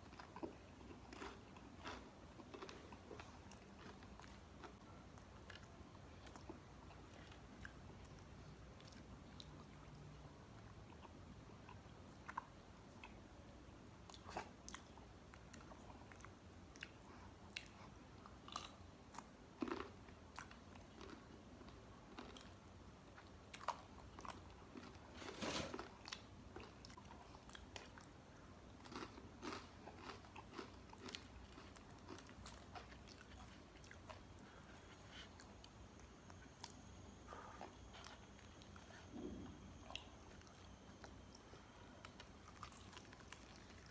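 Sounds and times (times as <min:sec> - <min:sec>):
person chewing crunchy food: 0:00.0 - 0:09.8, 0:14.1 - 0:43.9.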